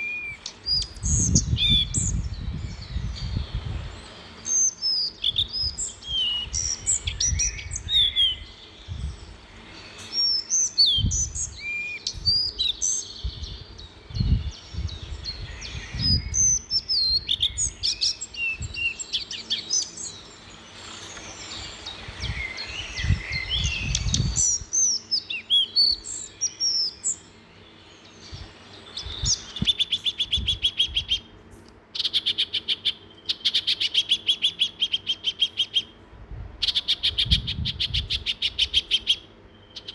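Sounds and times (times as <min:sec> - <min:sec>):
songbirds chirping and whistling: 0:00.0 - 0:39.9
rapid bird trill: 0:04.5 - 0:36.0, 0:36.6 - 0:39.9.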